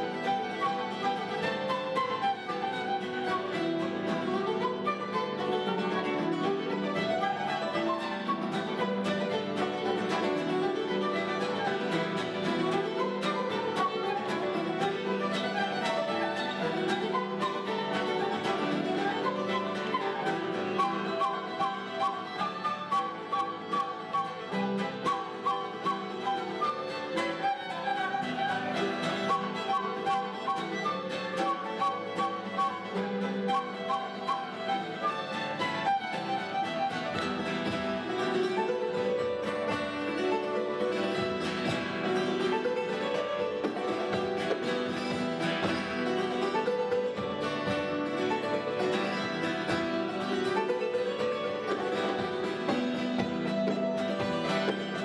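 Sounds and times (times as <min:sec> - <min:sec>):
acoustic guitar: 0:00.0 - 0:55.0
fiddle: 0:00.0 - 0:55.0
hammered dulcimer: 0:00.0 - 0:55.0
harp: 0:00.0 - 0:55.0.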